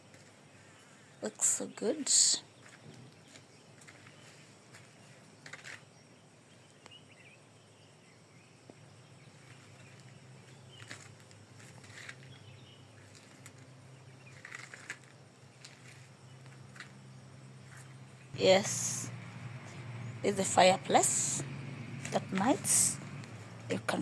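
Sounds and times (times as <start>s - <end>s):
low steady hiss: 0.0s - 24.0s.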